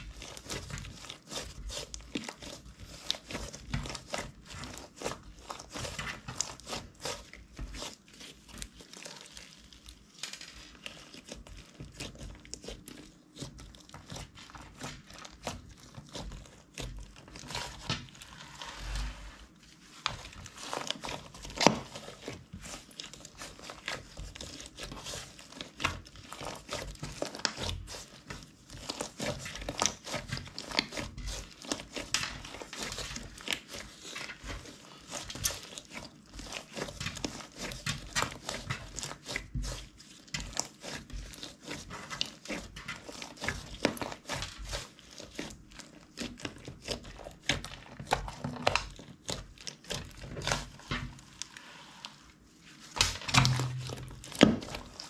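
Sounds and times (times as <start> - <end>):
hands squishing slime: 0.0 - 55.0.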